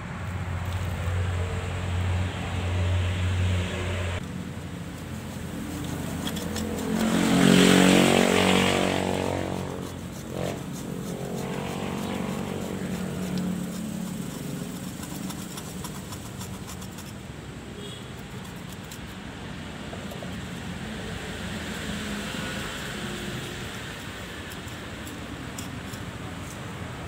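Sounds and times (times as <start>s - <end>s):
vehicle engine passing by: 0.0s - 16.1s, 20.0s - 27.0s.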